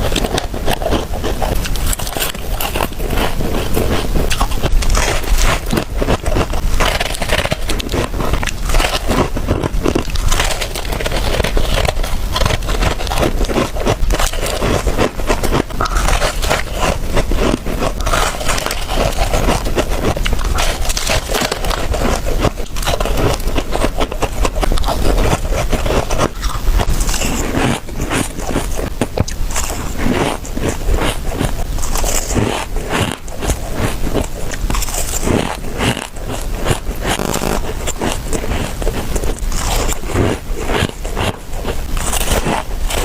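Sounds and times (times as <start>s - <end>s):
ice scraping and crunching: 0.0s - 43.0s.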